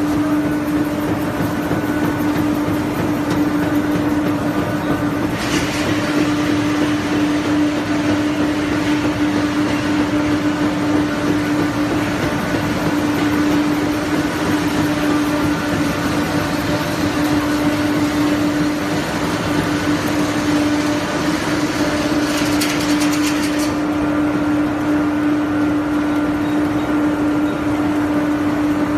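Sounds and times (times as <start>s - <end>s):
industrial machinery din: 0.0s - 28.9s.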